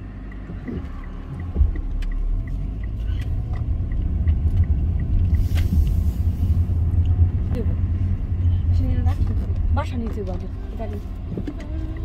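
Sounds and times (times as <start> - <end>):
car engine and tyres rumbling: 0.0 - 12.0
faint regular ticking: 0.0 - 12.0.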